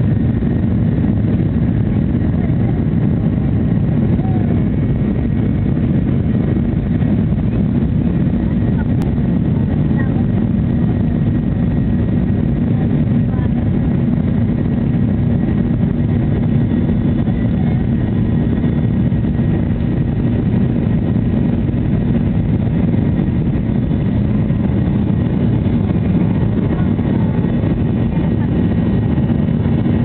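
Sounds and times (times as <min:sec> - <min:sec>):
jet engines roaring in cabin: 0:00.0 - 0:30.0.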